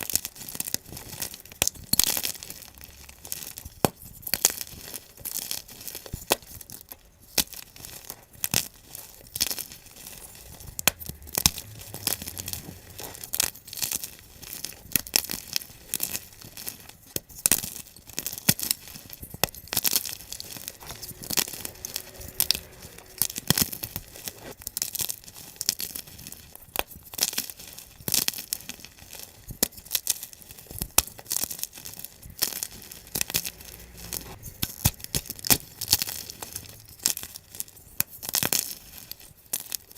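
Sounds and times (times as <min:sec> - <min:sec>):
chalk blocks crunching: 0:00.0 - 0:39.9.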